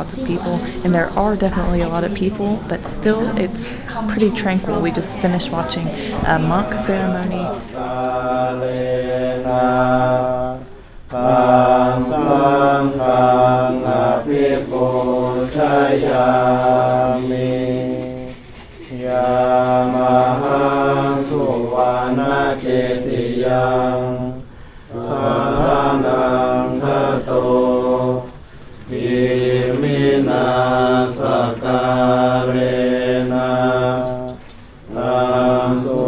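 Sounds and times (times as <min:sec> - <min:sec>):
monks chanting in unison: 0:03.9 - 0:36.0.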